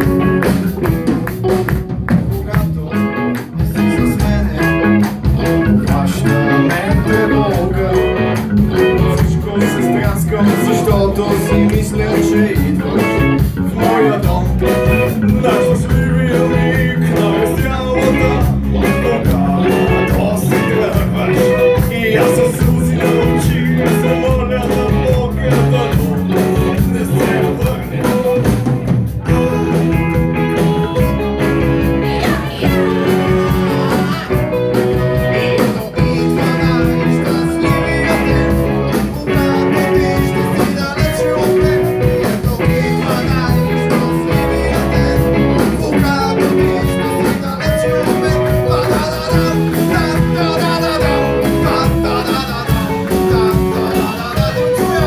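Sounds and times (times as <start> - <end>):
drum kit: 0.0 - 55.0
electric bass: 0.0 - 55.0
electric guitars: 0.0 - 55.0.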